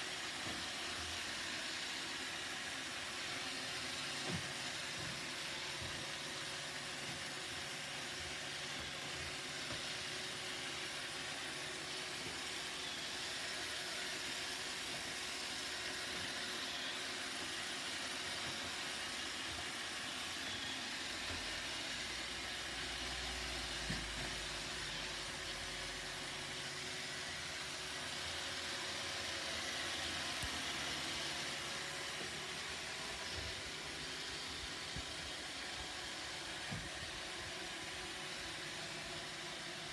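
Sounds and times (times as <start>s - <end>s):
robot vacuum motor whirring: 0.0s - 39.9s.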